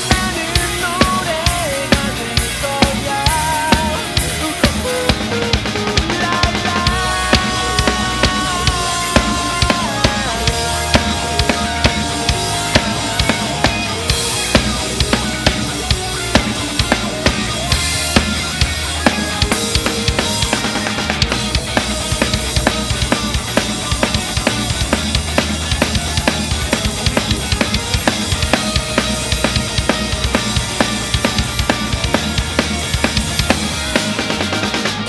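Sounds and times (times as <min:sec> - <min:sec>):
backing track instruments: 0:00.0 - 0:35.0
rock drum beat: 0:00.0 - 0:35.0.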